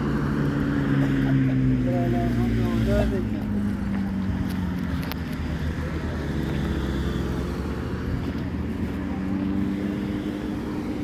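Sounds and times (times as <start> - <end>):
low outdoor rumble: 0.0 - 9.9
low engine hum: 0.0 - 11.0.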